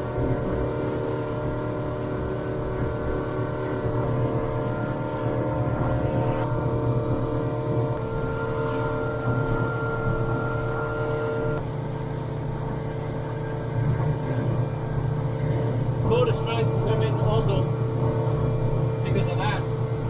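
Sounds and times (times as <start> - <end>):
small boat engine droning: 0.0 - 20.0.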